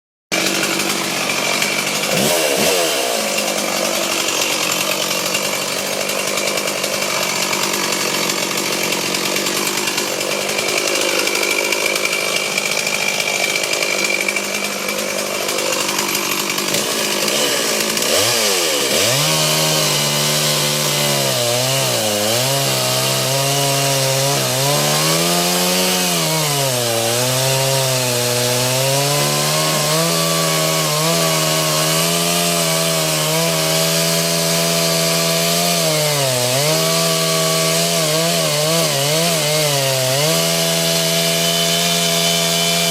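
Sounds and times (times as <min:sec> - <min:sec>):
chainsaw cutting into tree: 0:00.3 - 0:42.9.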